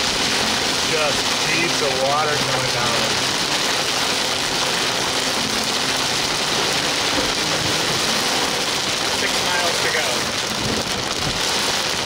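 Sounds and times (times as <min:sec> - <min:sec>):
car engine running: 0:00.0 - 0:12.0
heavy rain hitting a car: 0:00.0 - 0:12.0.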